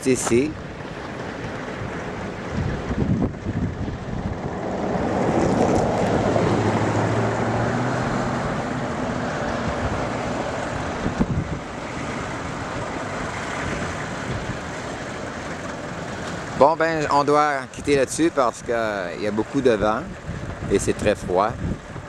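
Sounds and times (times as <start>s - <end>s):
vehicle engine hum: 0.0s - 22.0s
wind blowing on microphone: 0.0s - 22.0s.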